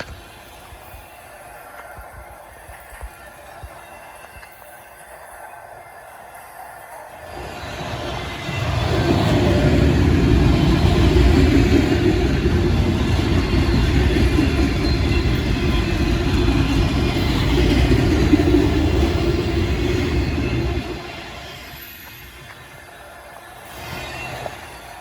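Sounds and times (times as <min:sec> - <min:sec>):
train rumbling past on rails: 0:00.0 - 0:25.0.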